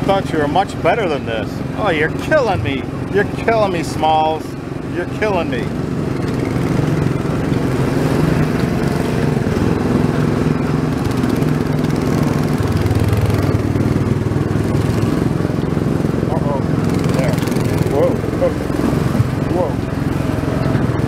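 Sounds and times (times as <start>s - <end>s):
small gasoline engine running: 0.0s - 21.0s.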